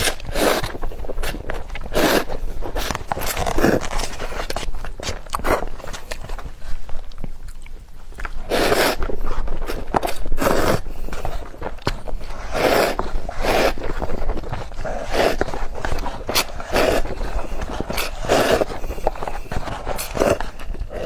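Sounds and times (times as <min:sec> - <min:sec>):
slurping noodles: 0:00.0 - 0:06.9, 0:08.2 - 0:21.0
mouth clicks and chewing: 0:00.0 - 0:21.0.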